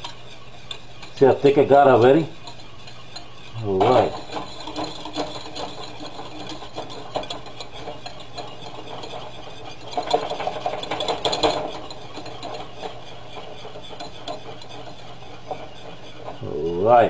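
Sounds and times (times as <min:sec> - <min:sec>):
utensil scraping a saucepan: 0:00.0 - 0:17.0.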